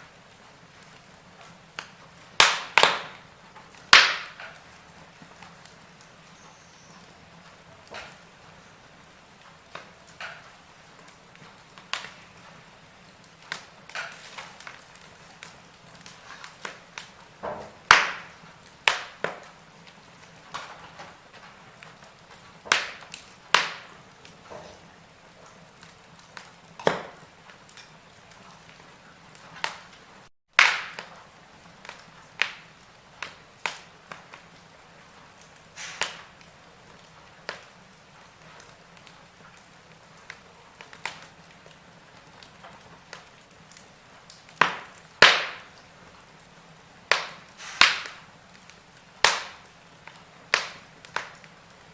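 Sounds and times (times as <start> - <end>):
faint steady hiss: 0.0 - 51.9
wood fire crackling: 0.0 - 51.9.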